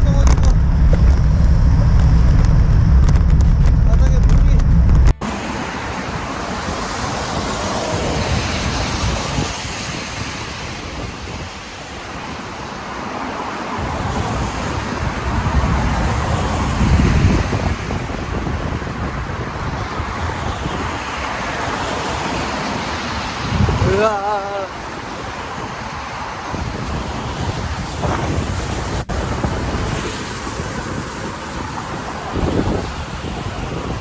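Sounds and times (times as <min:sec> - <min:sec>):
wind buffeting microphone: 0:00.0 - 0:34.0
tyres hissing on wet road: 0:05.2 - 0:34.0.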